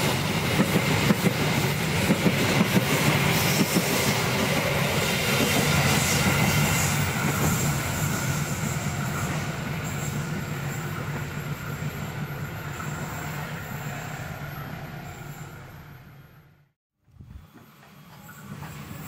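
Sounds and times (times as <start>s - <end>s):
train wheels on rails: 0.0s - 16.4s, 17.3s - 19.0s.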